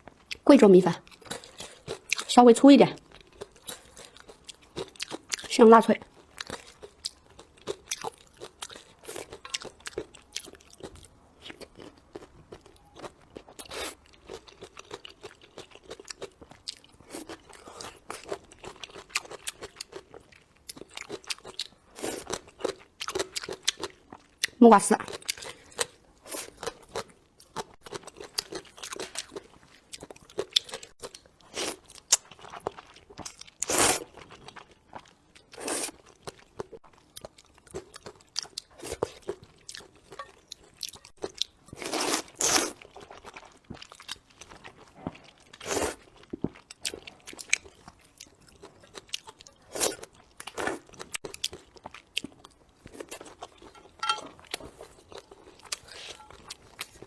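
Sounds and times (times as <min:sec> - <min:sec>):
person chewing crunchy food: 0:01.0 - 0:02.3, 0:03.0 - 0:57.0.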